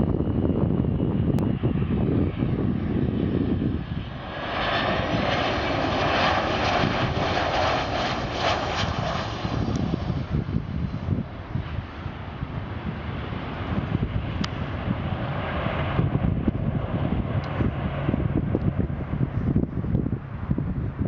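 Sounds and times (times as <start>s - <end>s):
jet engines roaring: 0.0s - 21.0s
low rumble: 0.0s - 21.0s.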